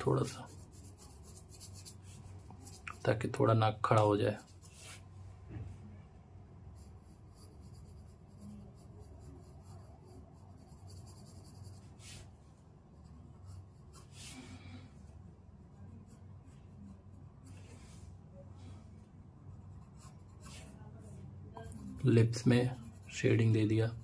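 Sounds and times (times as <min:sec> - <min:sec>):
pencil scratching on paper: 0:00.0 - 0:03.4, 0:04.0 - 0:05.1, 0:06.6 - 0:14.4, 0:15.6 - 0:18.0, 0:19.5 - 0:24.0
low steady hum: 0:00.0 - 0:24.0.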